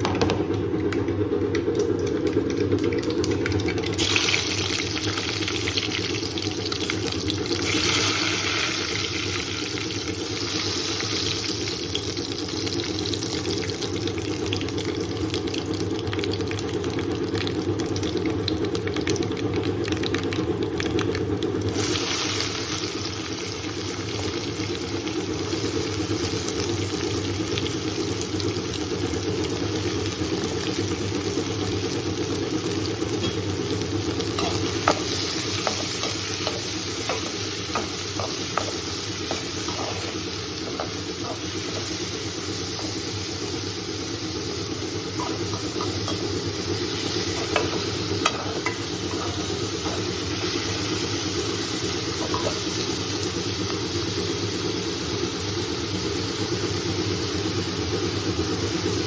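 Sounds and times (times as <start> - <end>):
food sizzling in a pan: 3.9 - 19.4, 21.6 - 59.0.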